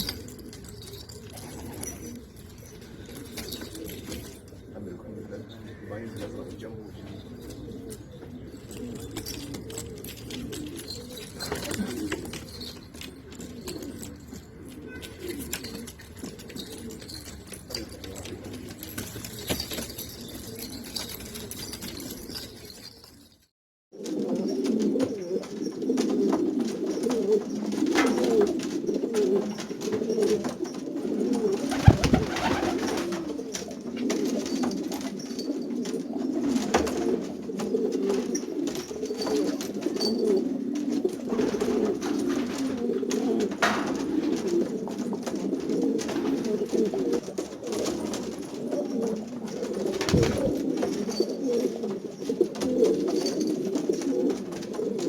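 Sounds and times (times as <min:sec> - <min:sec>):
pigeons cooing: 0:00.0 - 0:22.9, 0:24.0 - 0:55.0.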